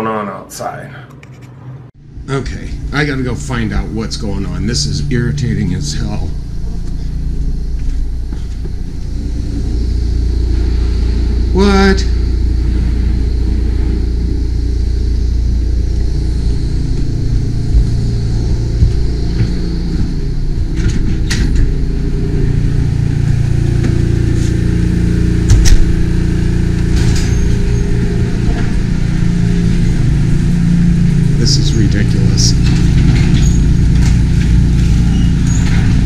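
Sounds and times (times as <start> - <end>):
power washer engine droning: 2.0 - 36.0.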